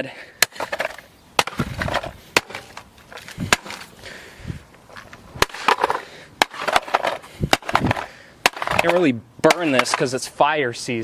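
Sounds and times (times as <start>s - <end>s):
plastic parts rattling and scraping: 0.5s - 4.0s, 4.9s - 10.3s.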